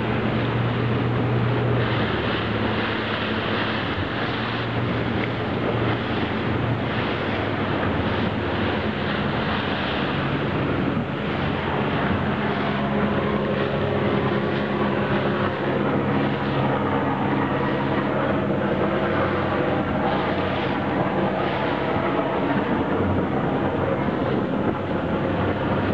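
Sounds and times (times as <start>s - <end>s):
motorboat engine running: 0.0s - 25.9s
water rushing: 0.0s - 25.9s
wind noise: 0.0s - 25.9s.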